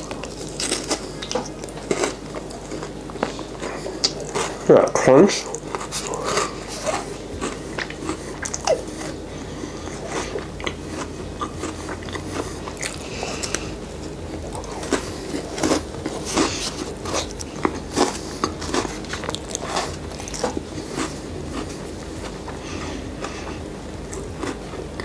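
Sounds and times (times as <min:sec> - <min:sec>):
chocolate bar crunching: 0:00.0 - 0:09.2, 0:09.8 - 0:23.4, 0:24.0 - 0:25.0.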